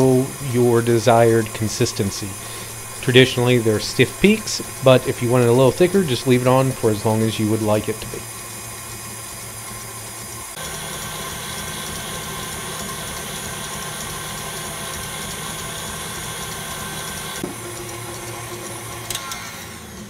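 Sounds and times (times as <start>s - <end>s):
stand mixer motor whine: 0.0s - 20.0s.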